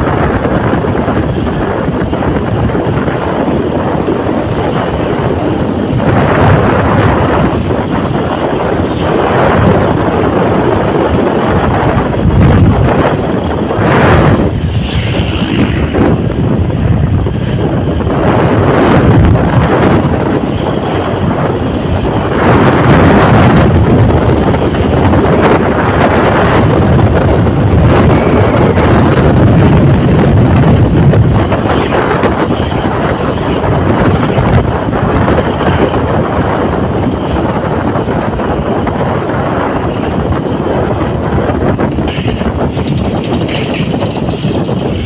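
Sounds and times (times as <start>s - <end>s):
passing traffic: 0.0s - 45.0s
road noise: 0.0s - 45.0s
wind buffeting microphone: 0.0s - 45.0s.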